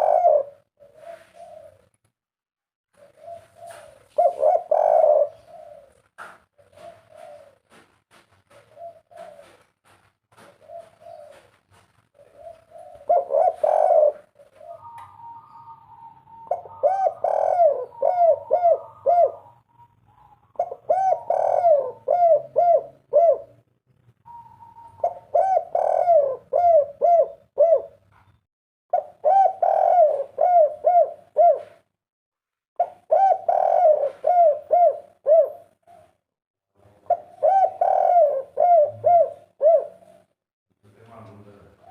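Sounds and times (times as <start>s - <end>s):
dove cooing: 0.0s - 2.0s, 2.9s - 23.6s, 24.2s - 28.3s, 28.9s - 31.9s, 32.8s - 36.2s, 36.8s - 40.3s.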